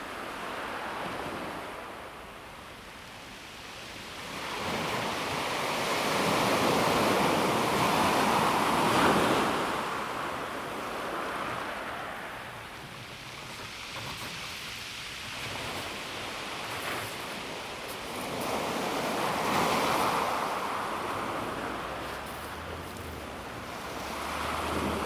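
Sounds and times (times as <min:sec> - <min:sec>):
waves washing on pebble beach: 0:03.6 - 0:25.0.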